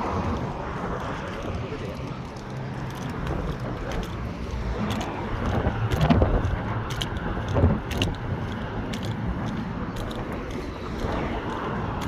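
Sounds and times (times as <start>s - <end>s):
crunching footsteps: 0.0s - 12.0s
traffic rumble: 0.0s - 12.0s
vehicles passing: 0.0s - 12.0s
wind buffeting microphone: 0.0s - 12.0s.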